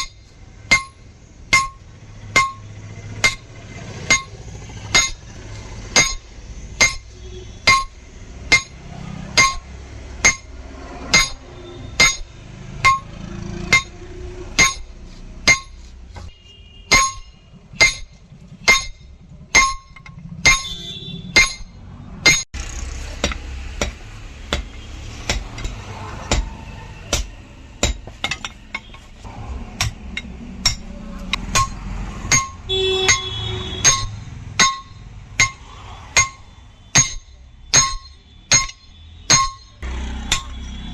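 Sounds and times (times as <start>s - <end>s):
hammer clanging on anvil: 0.0s - 5.3s, 6.0s - 8.8s, 9.4s - 14.0s, 14.6s - 22.5s, 25.3s - 29.0s, 29.8s - 40.7s.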